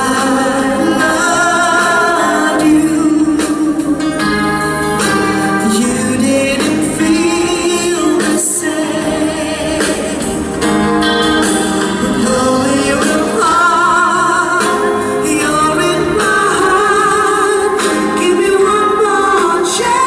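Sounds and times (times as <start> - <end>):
band with keyboards: 0.0 - 20.0
person singing: 0.0 - 20.0.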